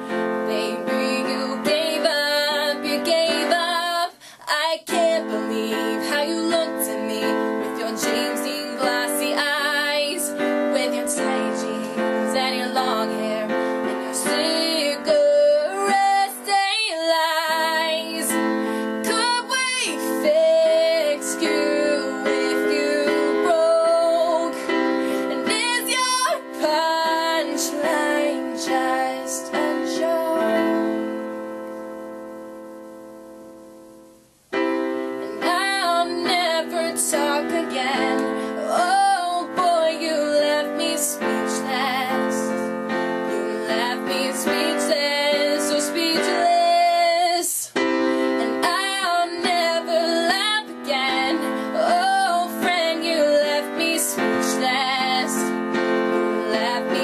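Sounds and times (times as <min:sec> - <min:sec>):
woman singing a slow ballad: 0:00.0 - 0:31.5, 0:35.2 - 0:57.0
digital piano chords: 0:00.0 - 0:57.0.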